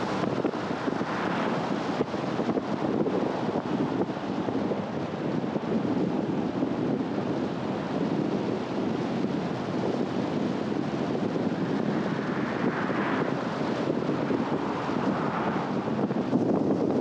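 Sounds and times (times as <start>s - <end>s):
wind noise: 0.0s - 17.0s.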